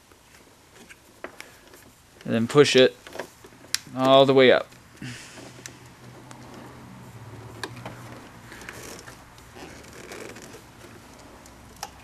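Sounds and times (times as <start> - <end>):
faint rustling: 0.0 - 11.8.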